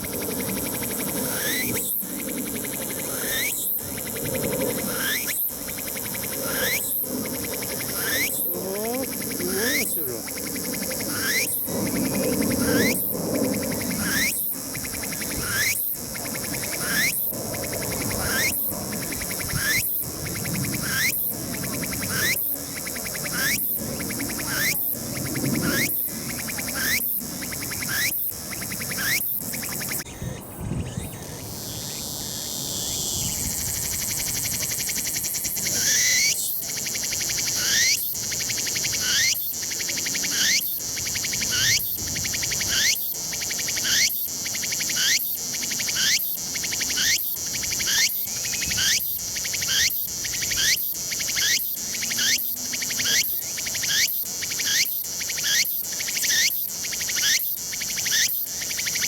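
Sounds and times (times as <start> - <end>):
cicada high buzz: 0.0 - 59.0
cicada repeated rising phrases: 0.0 - 59.0.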